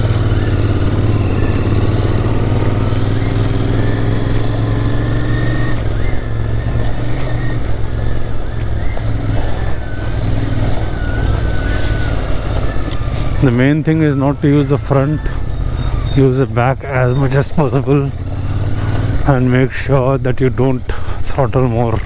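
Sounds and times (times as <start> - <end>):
motorcycle engine running at low revs: 0.0 - 22.0.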